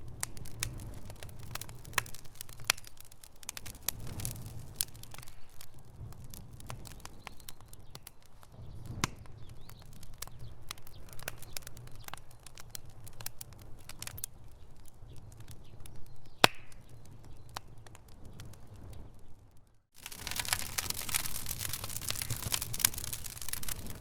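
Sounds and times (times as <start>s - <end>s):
loud pops from fire: 0.0s - 24.0s
wood fire crackling: 0.0s - 24.0s.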